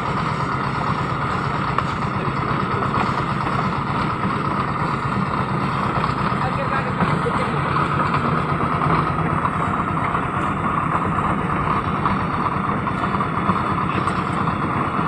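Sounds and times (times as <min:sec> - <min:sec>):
concrete mixer running: 0:00.0 - 0:15.0.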